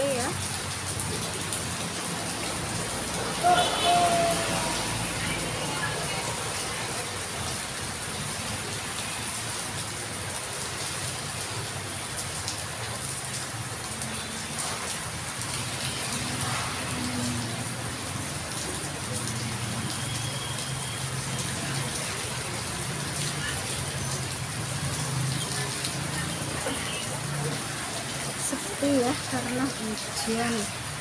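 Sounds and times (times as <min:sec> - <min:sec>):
heavy rain on wet street: 0:00.0 - 0:31.0.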